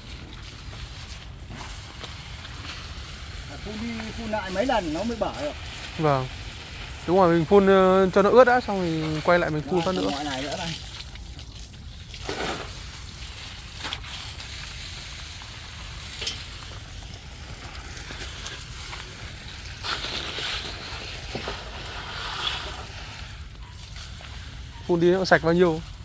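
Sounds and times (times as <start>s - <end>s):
water jet hissing on mud: 0.0s - 26.0s.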